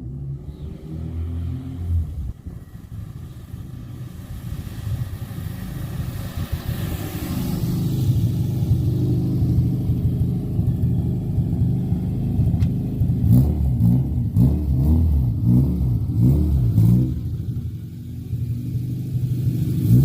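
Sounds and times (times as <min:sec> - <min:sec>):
car engine surging and stumbling: 0:00.0 - 0:20.0.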